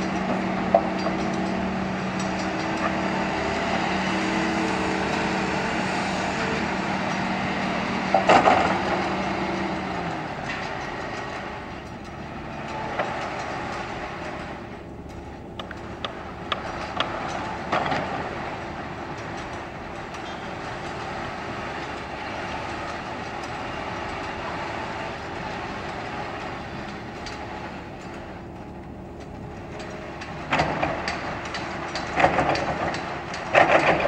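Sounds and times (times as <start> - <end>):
diesel engines running: 0.0 - 34.0.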